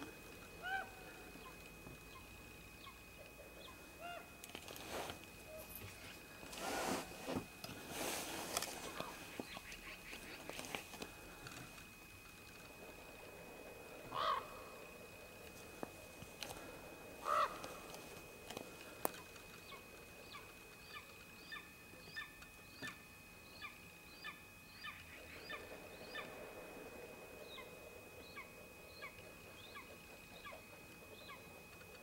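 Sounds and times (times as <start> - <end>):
ravens croaking: 0.0 - 6.8, 7.8 - 22.9, 23.6 - 31.7.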